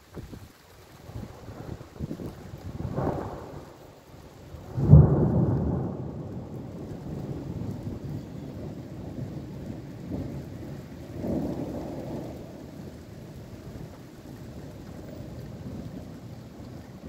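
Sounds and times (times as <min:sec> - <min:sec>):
steady rain: 0:00.0 - 0:17.0
thunder rumbling: 0:01.0 - 0:17.0.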